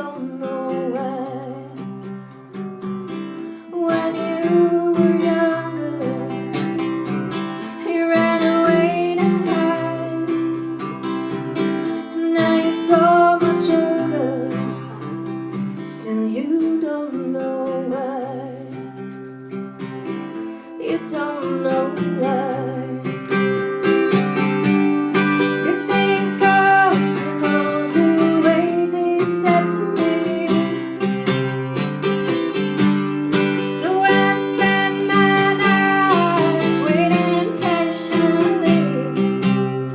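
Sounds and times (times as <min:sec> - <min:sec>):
woman singing: 0:00.0 - 0:02.1, 0:03.6 - 0:19.0, 0:20.6 - 0:23.7, 0:25.4 - 0:39.9
strummed acoustic guitar: 0:00.0 - 0:39.9.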